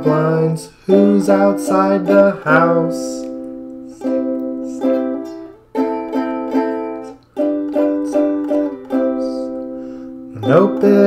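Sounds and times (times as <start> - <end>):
person singing: 0.0 - 11.0
ukulele strumming: 0.0 - 11.0.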